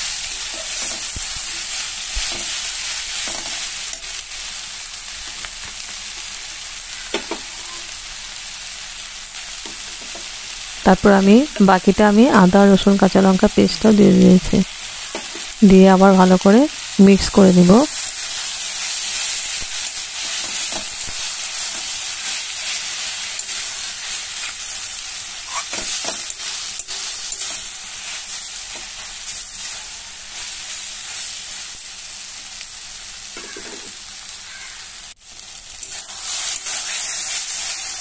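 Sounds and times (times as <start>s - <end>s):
vegetables sizzling in oil: 0.0s - 38.0s.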